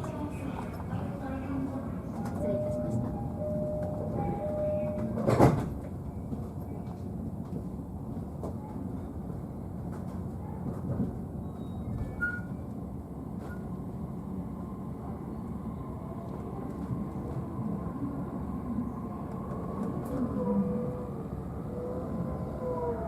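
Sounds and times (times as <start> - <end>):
low rumble of train car: 0.0 - 23.0.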